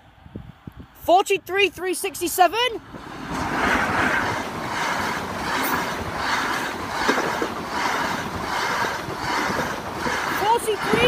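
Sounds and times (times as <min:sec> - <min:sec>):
train coaches rushing past: 0:01.6 - 0:11.0
wheel and rail noise: 0:01.9 - 0:11.0.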